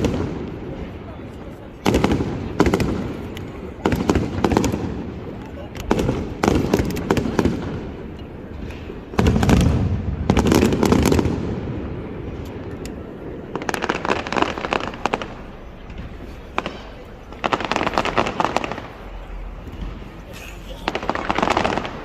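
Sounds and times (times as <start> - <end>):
crackling firework volleys: 0.0 - 22.0
fireworks booming: 0.0 - 22.0.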